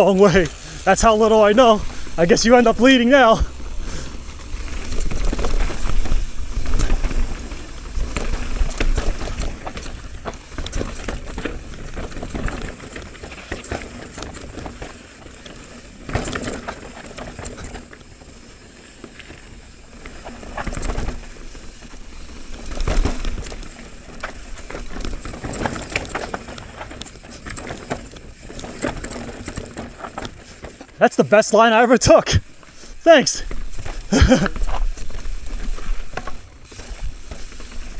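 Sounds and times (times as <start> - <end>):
bike rattling and clicking: 0.0 - 31.0, 32.3 - 37.9
bike tyres on rough trail: 0.0 - 37.9.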